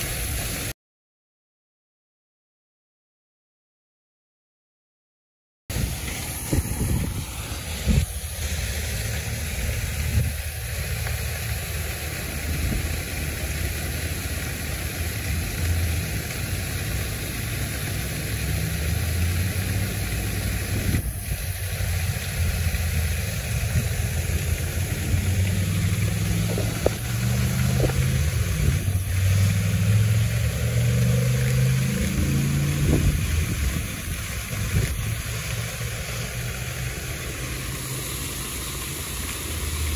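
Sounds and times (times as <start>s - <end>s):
vehicle engine rumble: 5.7s - 39.9s.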